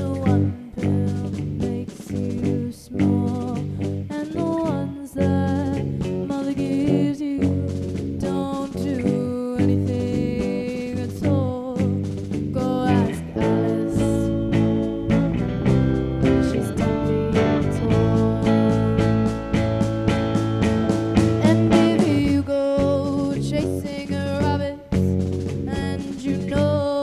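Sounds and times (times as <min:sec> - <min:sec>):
woman singing: 0:00.0 - 0:15.0, 0:15.7 - 0:20.5, 0:21.2 - 0:27.0
drums: 0:00.0 - 0:27.0
electric bass: 0:00.0 - 0:27.0
electric guitar: 0:00.0 - 0:27.0.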